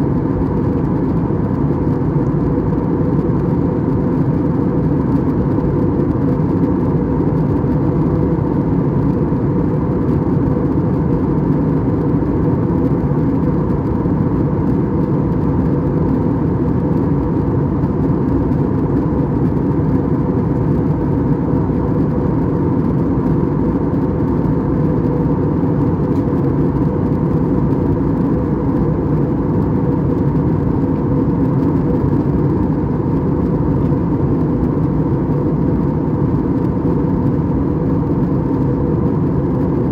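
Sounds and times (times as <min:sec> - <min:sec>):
aircraft engine drone: 0:00.0 - 0:39.9
faint steady hum: 0:00.0 - 0:39.9.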